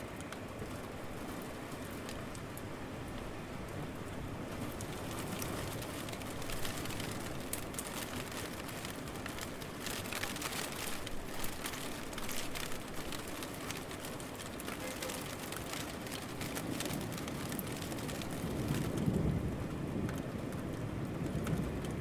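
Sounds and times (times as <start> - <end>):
close raindrop hits: 0.0 - 22.0
steady rain falling: 0.0 - 22.0.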